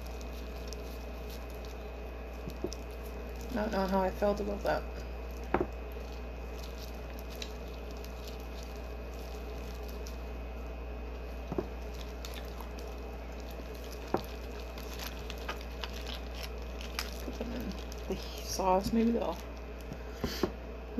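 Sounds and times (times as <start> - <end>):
wet squishy shrimp peeling: 0.0 - 20.1
steady low hum: 0.0 - 20.9.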